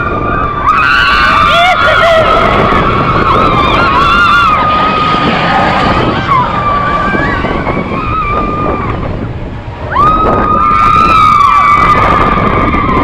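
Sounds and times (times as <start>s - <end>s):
high-pitched squeal: 0.0s - 13.0s
roller coaster wind rush and rumble: 0.0s - 13.0s.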